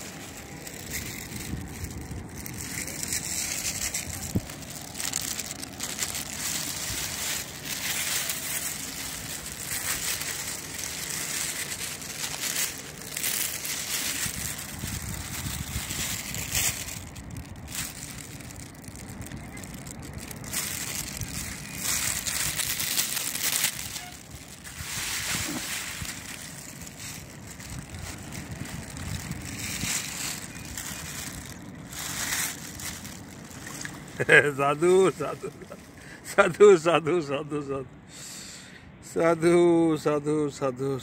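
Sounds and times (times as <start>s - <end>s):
plastic bag crinkling: 0.0s - 36.0s.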